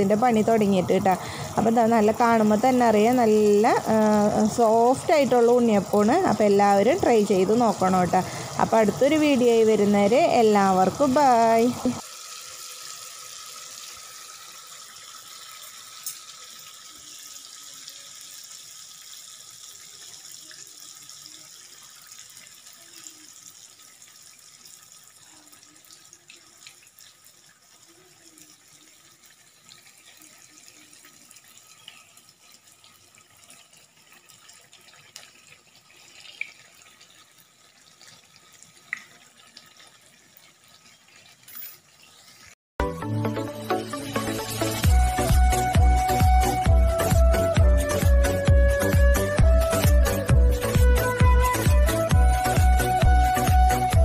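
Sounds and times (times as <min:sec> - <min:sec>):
batter sizzling in hot oil: 0:00.0 - 0:54.0.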